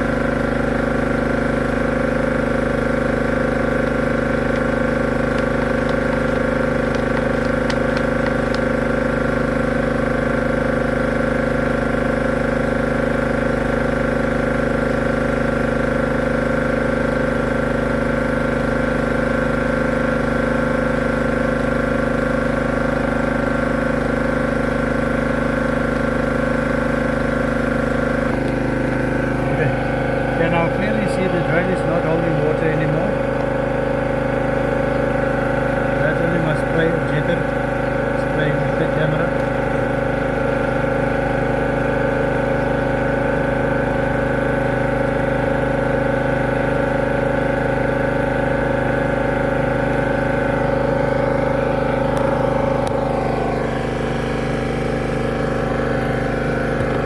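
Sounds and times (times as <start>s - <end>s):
drain jetter spraying water: 0.0s - 57.0s.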